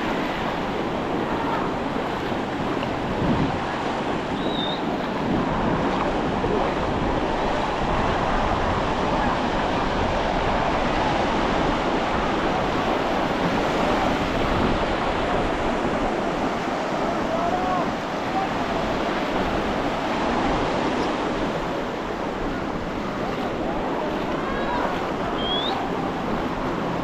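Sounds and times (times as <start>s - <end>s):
ocean surf breaking: 0.0s - 27.0s
wind buffeting microphone: 0.0s - 27.0s
faint voices: 0.3s - 20.5s, 21.2s - 27.0s.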